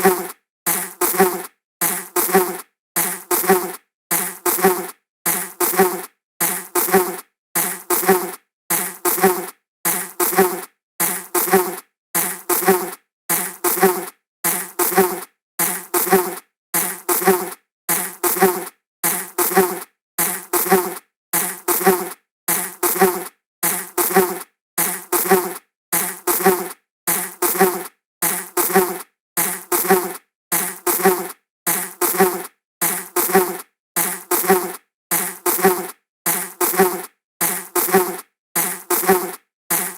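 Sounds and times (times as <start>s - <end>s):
flying insect buzzing: 0.0s - 39.9s.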